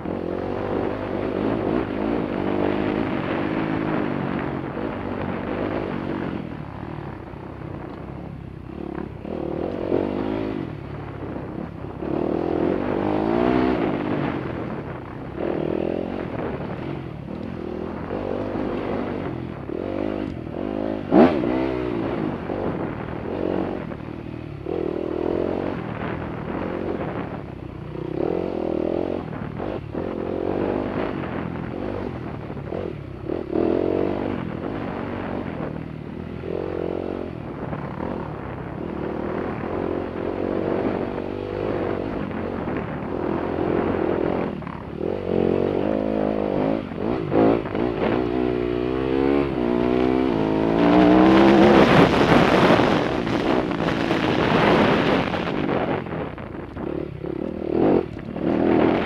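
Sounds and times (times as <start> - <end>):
dirt bikes revving: 0.0 - 59.0.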